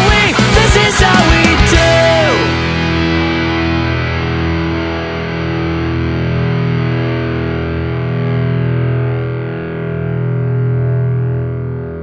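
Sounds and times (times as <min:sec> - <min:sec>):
distorted electric guitar chord: 0:00.0 - 0:12.0.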